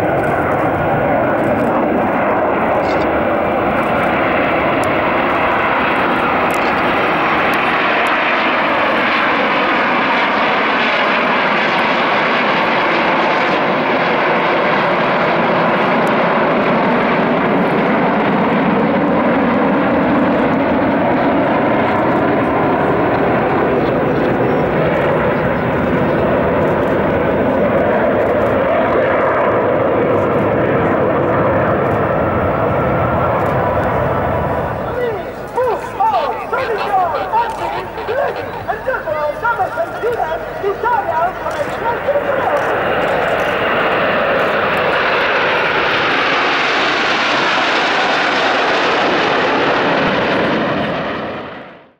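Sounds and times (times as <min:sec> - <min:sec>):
faint gliding jet whines: 0:00.0 - 0:51.9
jet engines rushing overhead: 0:00.0 - 0:51.9.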